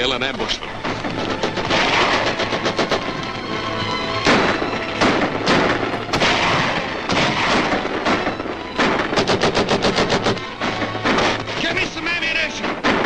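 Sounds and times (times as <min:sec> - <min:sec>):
echoing rifle shots: 0:00.7 - 0:03.4, 0:04.1 - 0:13.0
rapid gunfire: 0:00.8 - 0:03.3, 0:04.2 - 0:13.0.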